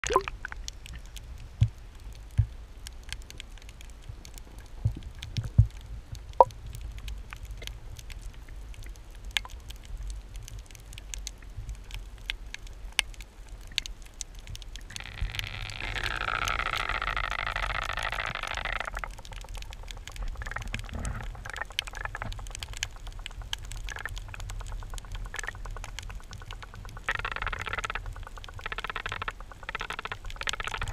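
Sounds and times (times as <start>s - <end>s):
underwater crackle of clicks: 0.0s - 30.9s.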